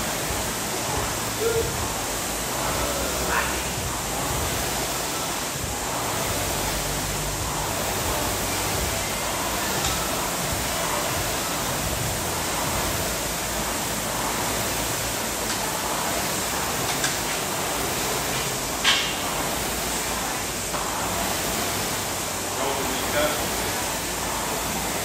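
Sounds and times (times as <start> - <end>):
rowing machine fan whooshing: 0.0 - 25.0.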